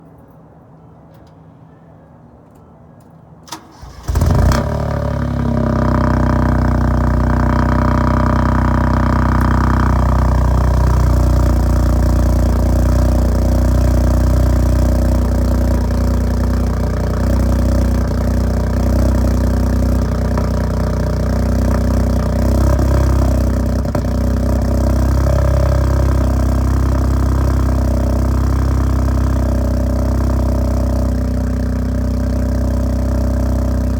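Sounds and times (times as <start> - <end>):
car engine starting and idling: 3.4 - 33.9.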